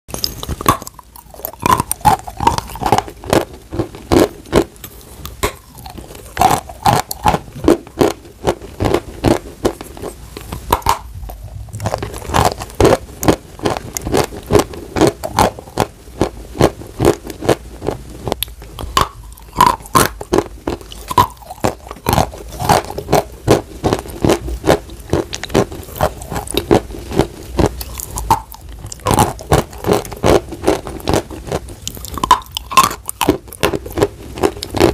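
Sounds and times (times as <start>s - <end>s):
chalk being chewed crunching: 0.3s - 34.9s.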